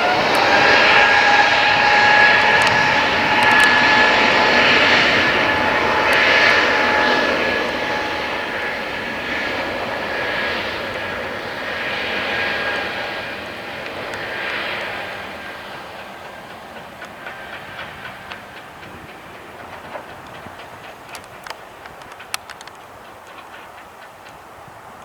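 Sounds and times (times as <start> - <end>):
rushing jet roar: 0.0 - 23.9
high jet whine: 0.0 - 24.0.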